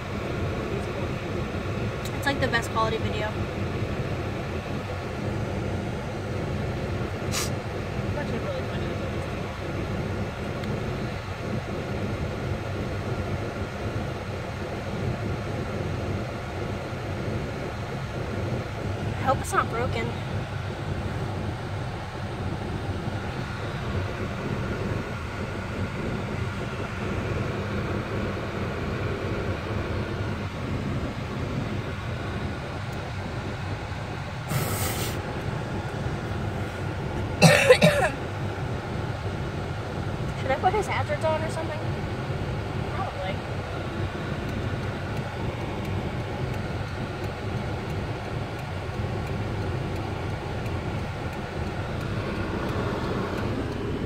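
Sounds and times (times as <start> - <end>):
car engine and road noise drone: 0.0 - 54.0.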